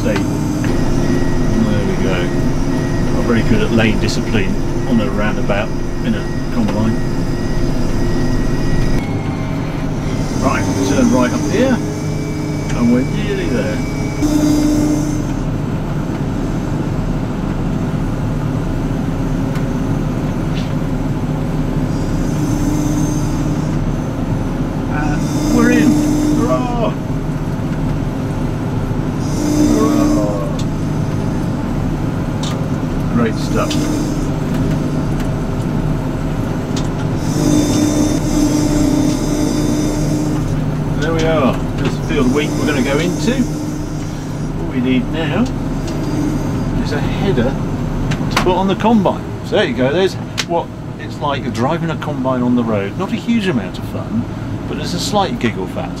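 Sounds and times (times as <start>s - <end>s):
higher hum: 0.0s - 51.0s
combine harvester drone: 0.0s - 56.0s
high machine whine: 0.0s - 56.0s.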